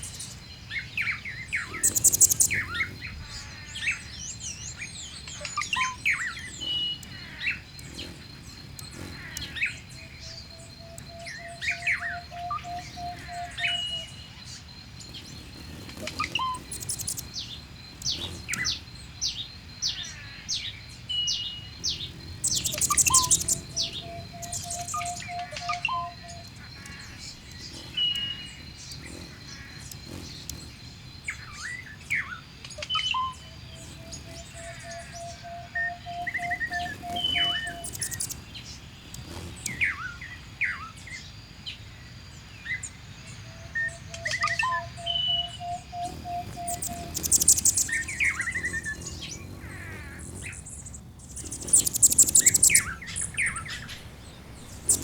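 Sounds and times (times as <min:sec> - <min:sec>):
birds chirping and whistling: 0:00.0 - 0:40.9, 0:42.8 - 0:55.0.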